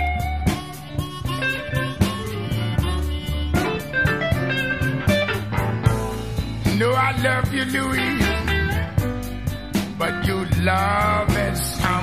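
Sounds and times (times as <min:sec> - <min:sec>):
blues band playing: 0:00.0 - 0:12.0.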